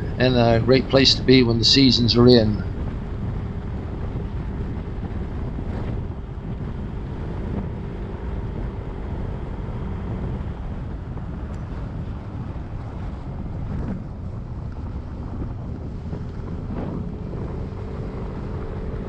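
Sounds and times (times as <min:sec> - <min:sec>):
wind buffeting microphone: 0:00.0 - 0:19.0
scooter engine running: 0:02.1 - 0:19.0.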